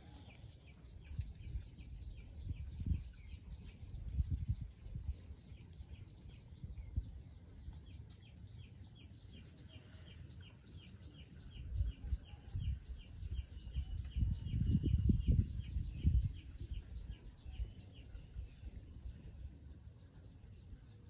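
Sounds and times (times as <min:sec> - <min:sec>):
low rumble on microphone: 0:00.0 - 0:08.2, 0:09.7 - 0:20.9
bird chirping: 0:00.0 - 0:21.0.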